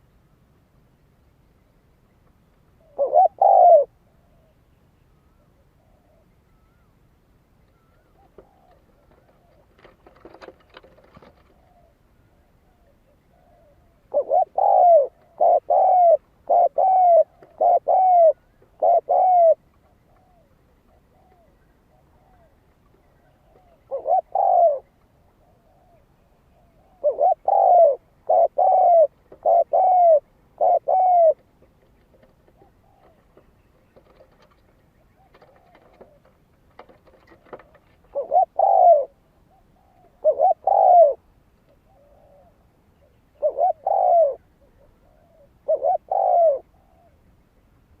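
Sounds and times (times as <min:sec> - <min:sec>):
dove cooing: 0:02.8 - 0:06.9, 0:07.7 - 0:47.3.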